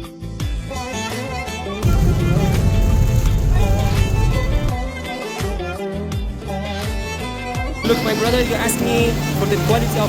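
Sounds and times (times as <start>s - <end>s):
background music with melody: 0.0s - 10.0s.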